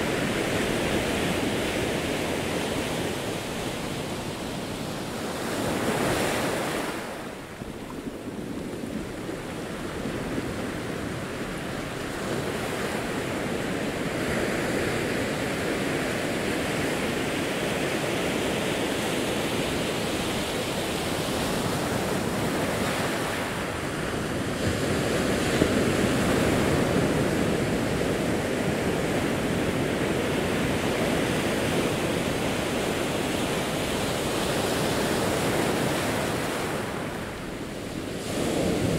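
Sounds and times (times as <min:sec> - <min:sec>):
waves breaking on rocky shore: 0:00.0 - 0:38.9.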